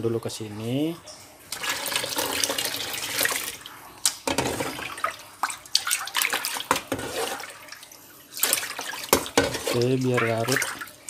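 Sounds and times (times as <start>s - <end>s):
liquid pouring and splashing: 1.4s - 11.0s
pan scooping through water: 1.5s - 11.0s.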